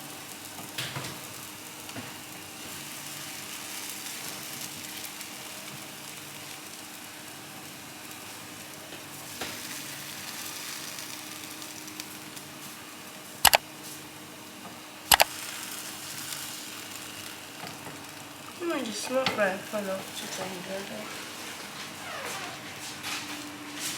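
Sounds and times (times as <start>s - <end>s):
food sizzling in a pan: 0.0s - 21.7s.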